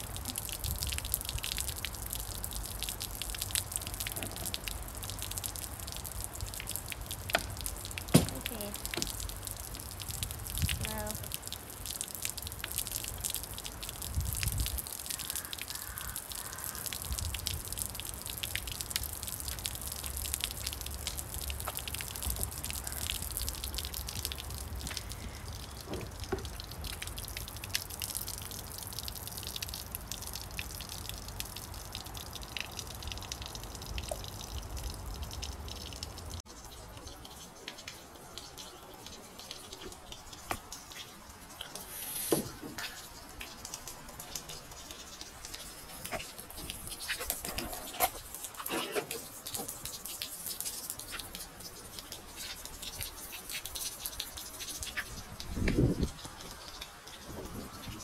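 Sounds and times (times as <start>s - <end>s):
water running from hose: 0.0s - 34.8s, 36.4s - 58.0s
water splashing and dripping on stone: 0.0s - 58.0s.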